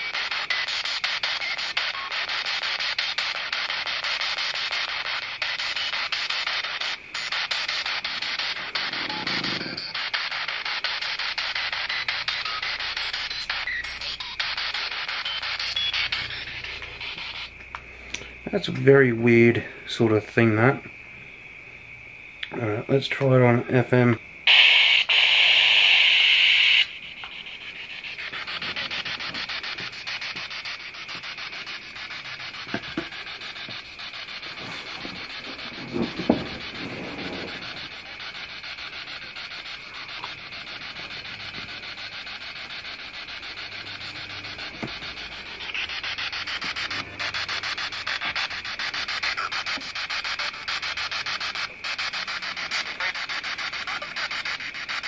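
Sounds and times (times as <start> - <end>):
radio static sweeping: 0.0 - 17.8, 23.1 - 55.0.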